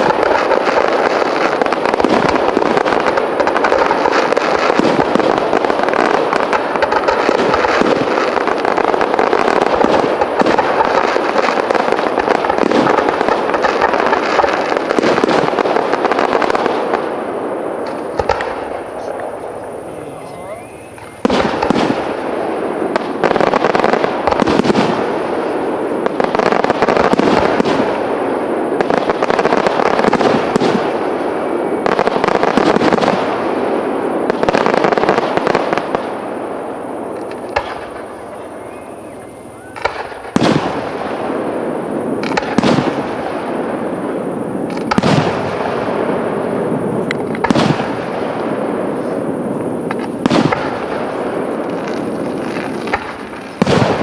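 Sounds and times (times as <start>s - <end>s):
crackle of bursting stars: 0.0s - 54.0s
firework shells bursting with bangs: 0.0s - 54.0s.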